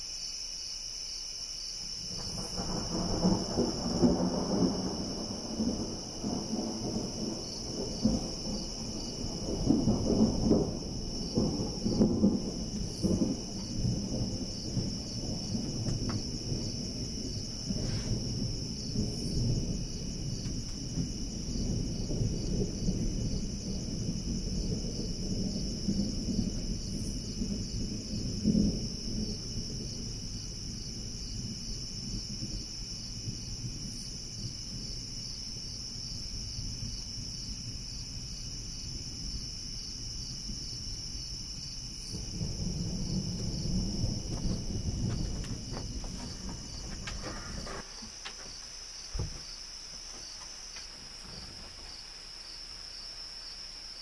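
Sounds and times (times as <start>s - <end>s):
high-pitched insect chorus: 0.0s - 54.0s
distant thunder rumbling: 1.8s - 52.1s.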